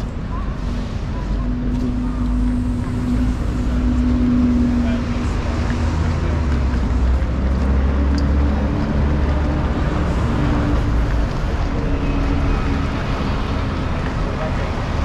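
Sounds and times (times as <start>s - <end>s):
buses and cars passing: 0.0s - 15.0s
road traffic rumble: 0.0s - 15.0s.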